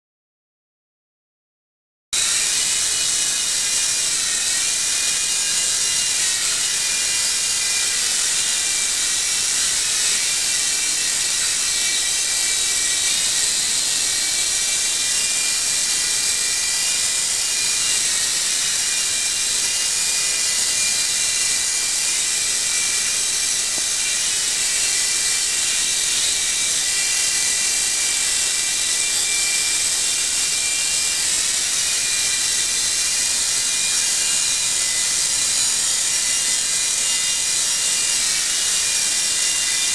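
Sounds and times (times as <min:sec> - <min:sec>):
toy helicopter motor whine: 0:02.2 - 0:39.9.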